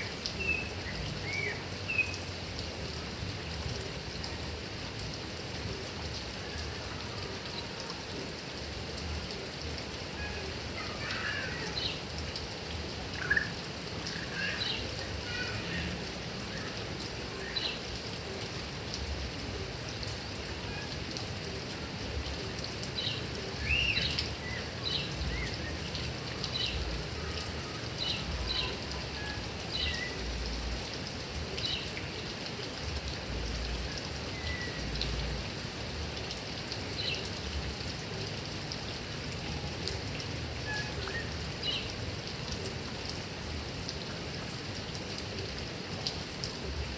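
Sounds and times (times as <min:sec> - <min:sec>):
heavy rain on grass and trees: 0:00.0 - 0:46.9.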